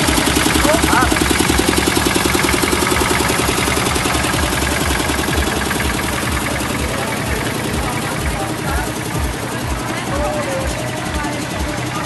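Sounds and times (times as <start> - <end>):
old tractor engine knocking: 0.0 - 12.0.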